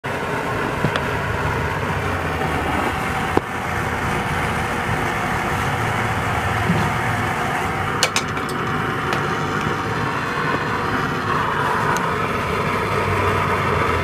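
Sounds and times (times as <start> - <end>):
oil stove burning with blower: 0.0 - 14.0.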